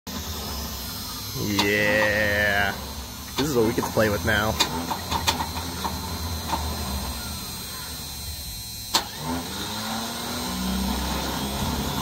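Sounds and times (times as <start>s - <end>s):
engine idling: 0.1s - 12.0s
higher engine tone: 0.1s - 12.0s.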